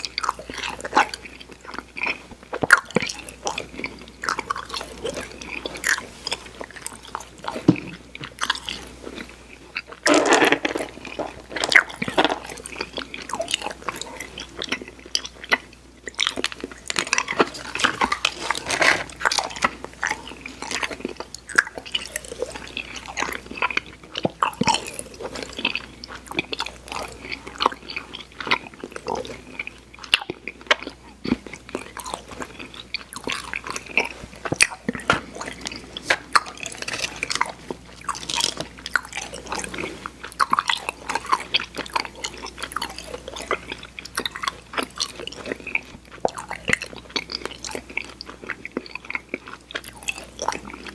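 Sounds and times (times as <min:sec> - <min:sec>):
mouth chewing candy: 0:00.0 - 0:50.9.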